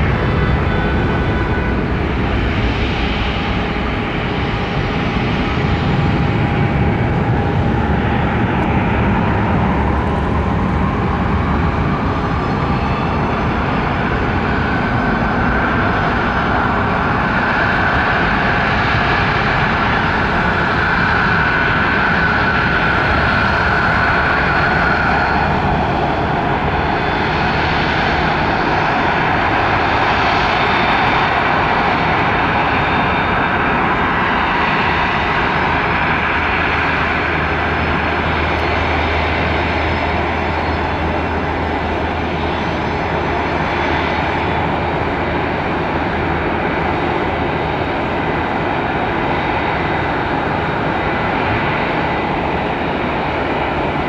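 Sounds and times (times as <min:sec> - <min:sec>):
jet engines roaring and whining: 0:00.0 - 0:54.0.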